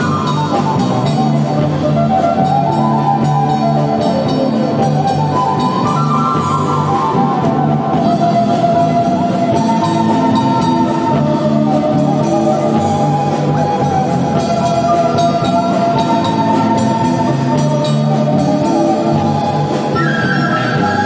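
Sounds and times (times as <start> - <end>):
drums: 0.0 - 21.0
guitar: 0.0 - 21.0
held melody line: 0.0 - 21.0.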